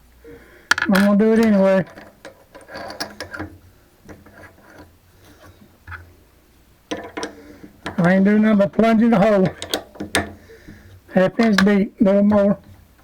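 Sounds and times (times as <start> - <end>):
clicks and knocks: 0.7 - 6.2, 6.9 - 13.0.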